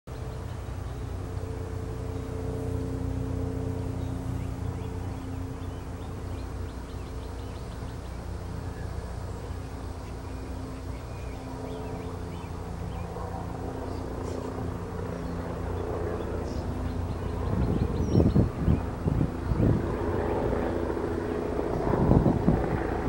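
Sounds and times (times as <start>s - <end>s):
low engine drone: 0.1s - 23.0s.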